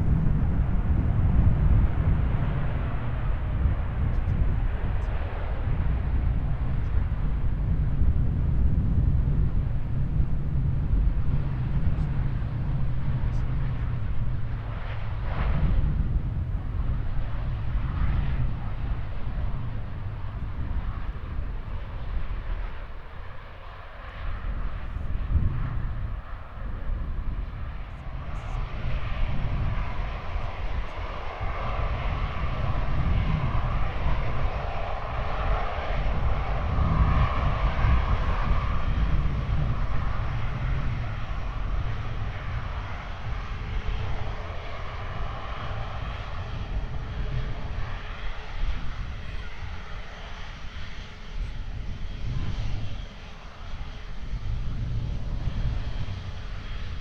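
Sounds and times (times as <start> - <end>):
airliner engines passing: 0.0 - 57.0.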